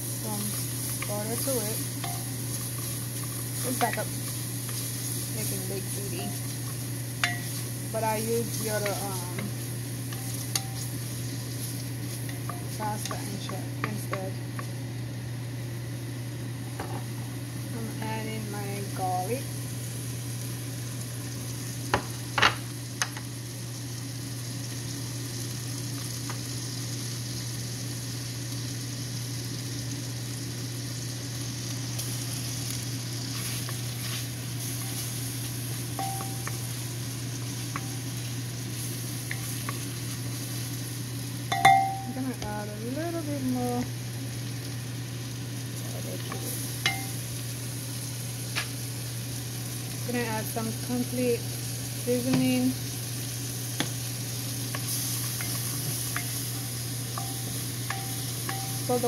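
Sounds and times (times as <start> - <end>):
garlic sizzling in butter: 0.0 - 59.0
steady low hum: 0.0 - 59.0.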